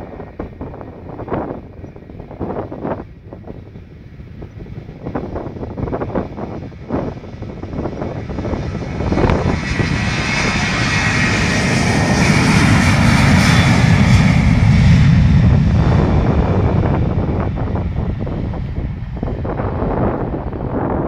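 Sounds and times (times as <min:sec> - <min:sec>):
airplane engines taxiing: 0:00.0 - 0:21.0.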